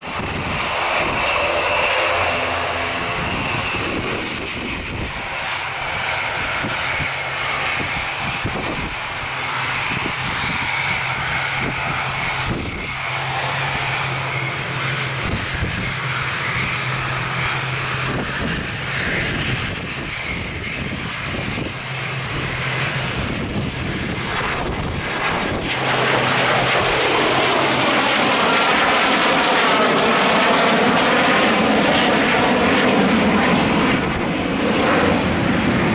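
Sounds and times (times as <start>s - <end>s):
jet engines rushing: 0.0s - 35.9s
high whine dropping in pitch: 0.1s - 35.9s.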